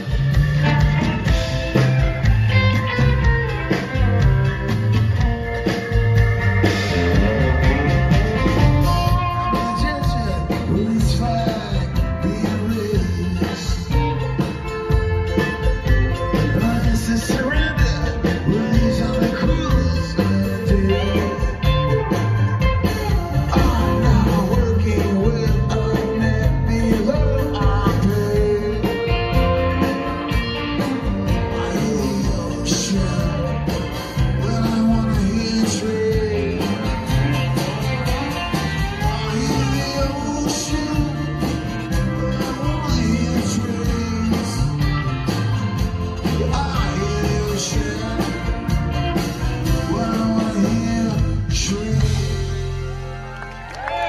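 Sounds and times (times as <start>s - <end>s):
acoustic and electric guitars: 0.0s - 54.0s
man singing lead: 6.6s - 53.2s.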